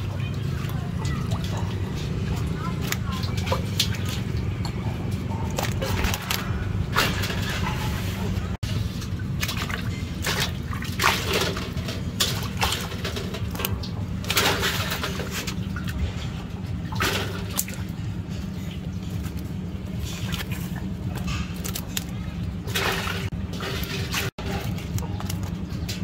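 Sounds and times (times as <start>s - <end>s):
fish splashing in water: 0.0s - 26.0s.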